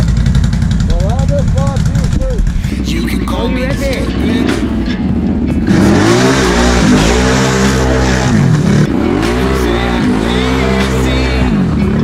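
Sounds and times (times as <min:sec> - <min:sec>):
atv engine revving: 0:00.0 - 0:12.0.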